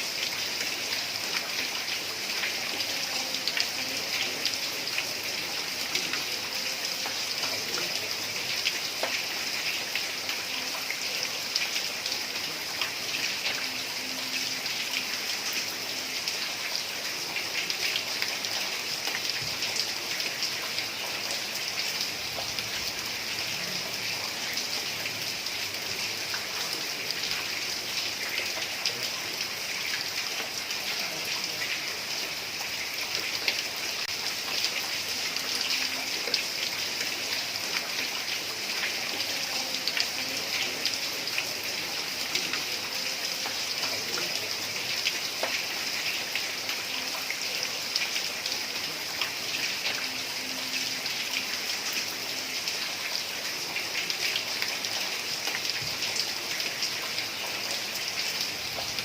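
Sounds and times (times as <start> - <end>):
heavy rain on a tiled roof: 0.0 - 59.0.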